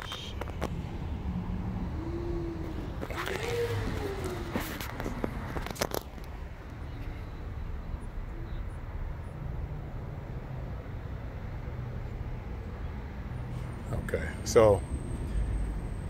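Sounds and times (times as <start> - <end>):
low vehicle rumble: 0.0 - 16.0.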